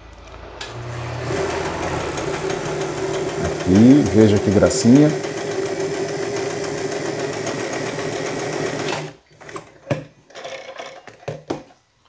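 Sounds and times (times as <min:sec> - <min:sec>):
sewing machine stitching: 0:00.6 - 0:11.1.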